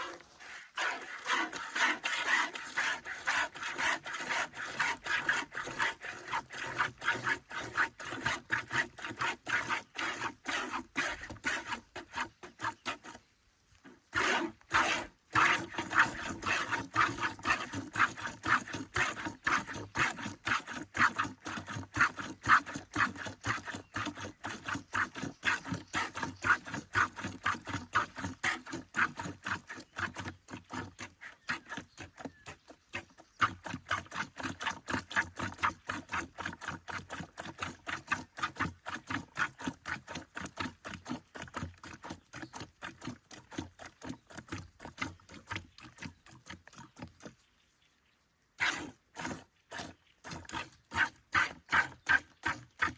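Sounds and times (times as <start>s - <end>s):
milk squirting into a pail: 0.0s - 13.4s, 14.0s - 47.5s, 48.6s - 52.9s.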